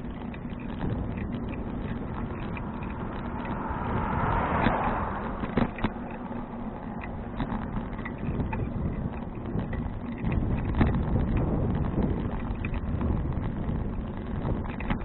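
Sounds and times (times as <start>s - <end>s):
bicycle riding rumble: 0.0s - 15.0s
bike clicks and rattles: 0.0s - 15.0s
wind buffeting microphone: 0.0s - 15.0s.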